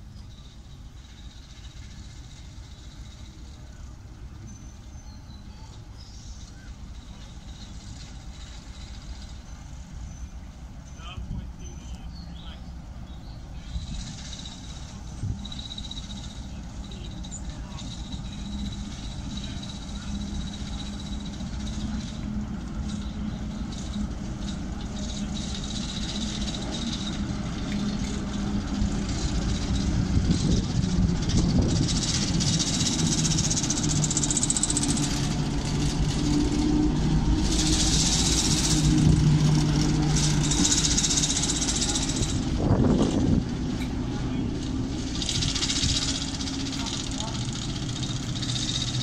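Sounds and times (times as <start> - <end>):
diesel locomotive engine passing: 0.0 - 49.0.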